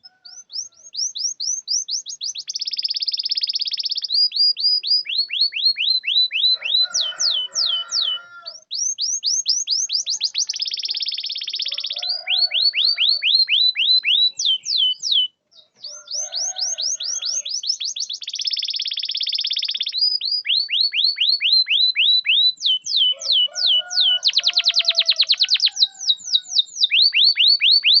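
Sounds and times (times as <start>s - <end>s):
canary singing: 0.0s - 28.0s.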